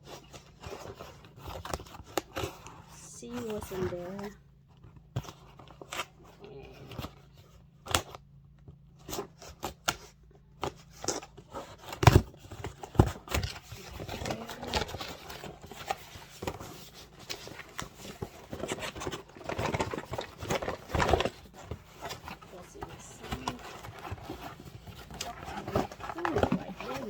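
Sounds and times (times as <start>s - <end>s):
packaging rustling and scraping: 0.0s - 27.0s.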